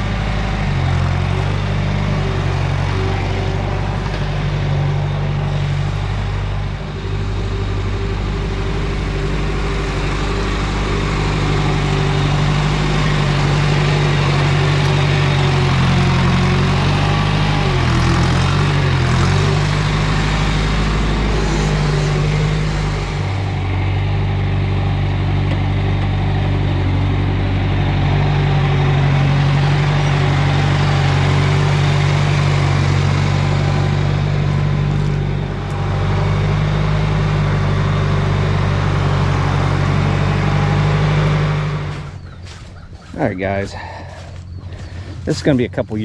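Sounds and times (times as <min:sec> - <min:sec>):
tractor engine running: 0:00.0 - 0:46.0.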